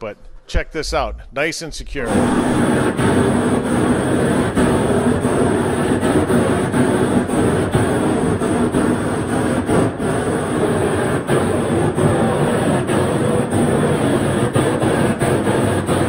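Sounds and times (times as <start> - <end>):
heat gun rushing: 2.1 - 16.0.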